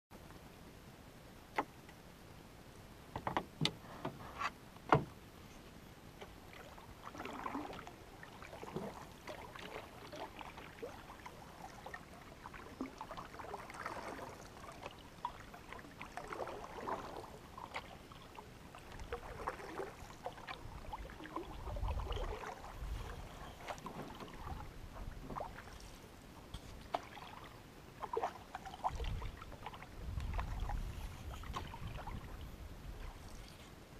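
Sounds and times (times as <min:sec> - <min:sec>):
paddle swishing and dripping: 0:05.6 - 0:33.8.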